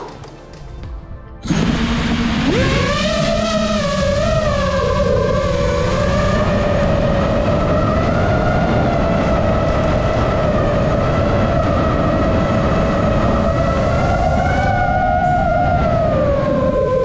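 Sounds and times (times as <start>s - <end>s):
wind rush on microphone: 0.8s - 17.0s
drone motors whining: 1.4s - 17.0s.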